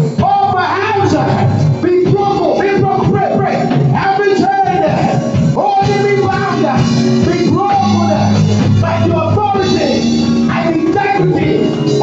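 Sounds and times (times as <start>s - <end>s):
held low chords: 0.0s - 12.0s
people singing worship music: 0.0s - 12.0s.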